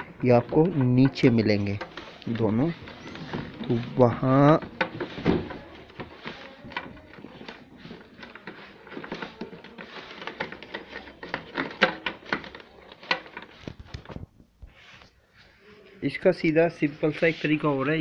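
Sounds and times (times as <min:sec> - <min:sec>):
hands rustling wiring: 0:00.0 - 0:18.0.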